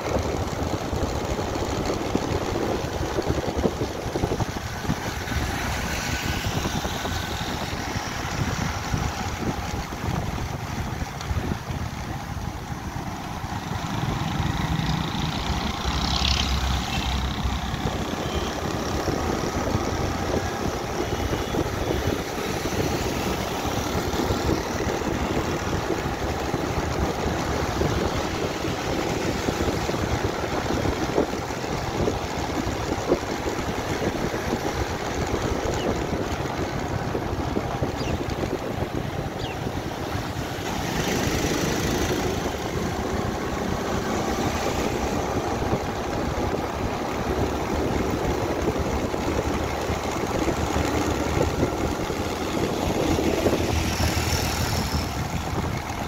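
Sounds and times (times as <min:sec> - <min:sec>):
engine hum: 0:00.0 - 0:56.0
motorcycles and cars passing: 0:00.0 - 0:56.0
wind noise: 0:00.0 - 0:56.0.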